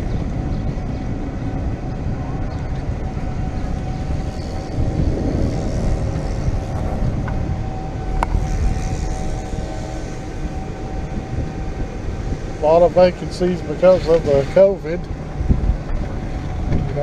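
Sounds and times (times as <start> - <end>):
golf cart drive whine: 0.0 - 17.0
tyres on road: 0.0 - 17.0
wind on microphone: 0.0 - 17.0.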